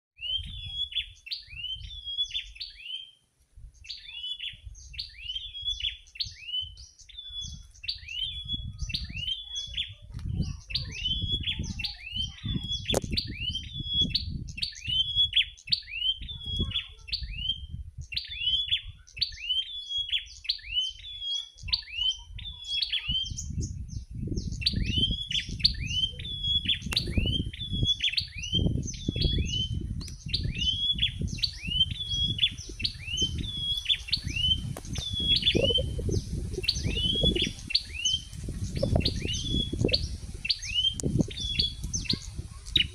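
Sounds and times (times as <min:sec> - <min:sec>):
bird singing high chirps: 0:00.2 - 0:03.2, 0:03.8 - 0:42.9.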